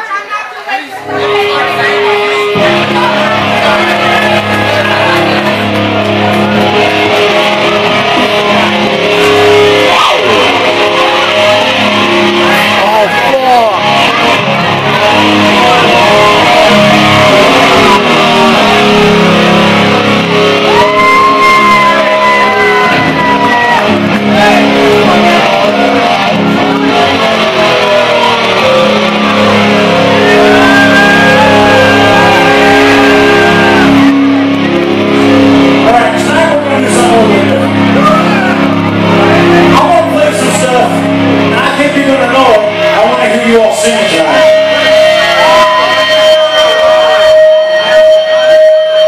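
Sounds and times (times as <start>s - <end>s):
electric guitar sliding lead notes: 1.0s - 49.0s
live rock band: 1.0s - 49.0s.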